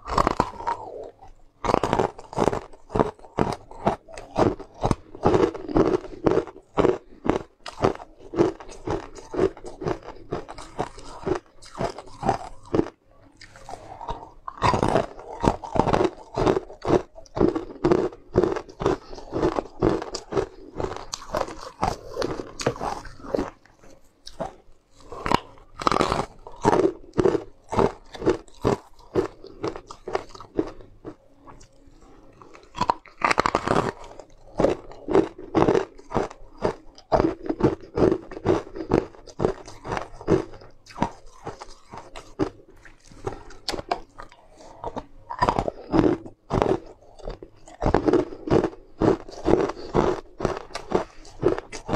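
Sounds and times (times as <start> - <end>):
crunching hard candy: 0.0 - 51.9.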